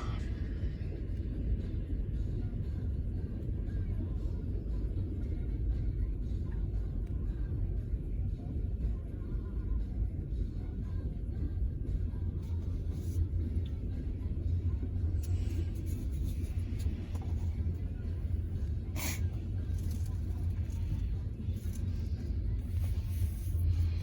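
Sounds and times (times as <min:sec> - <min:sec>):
low vehicle rumble inside car: 0:00.0 - 0:24.0.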